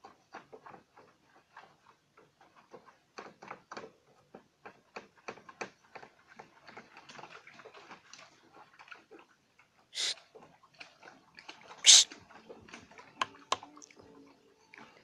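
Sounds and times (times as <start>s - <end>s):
bamboo raft and pole clicking: 0.0s - 15.0s.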